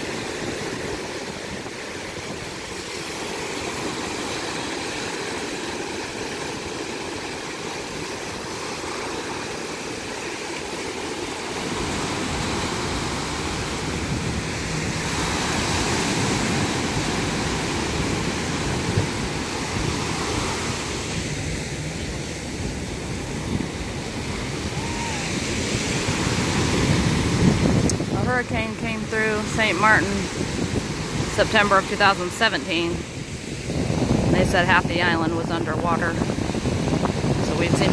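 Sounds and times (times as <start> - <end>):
wind rumble on microphone: 0.0 - 10.2, 11.5 - 37.9
surf washing up beach: 0.0 - 37.9.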